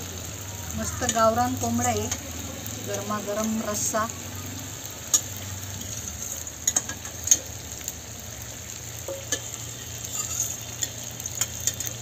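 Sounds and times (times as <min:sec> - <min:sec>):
chicken sizzling in oil: 0:00.0 - 0:12.0
oil popping and crackling: 0:00.0 - 0:12.0.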